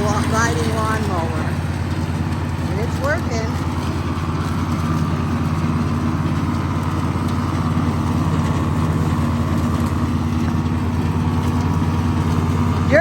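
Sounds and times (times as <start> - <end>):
riding lawn mower running: 0.0 - 13.0.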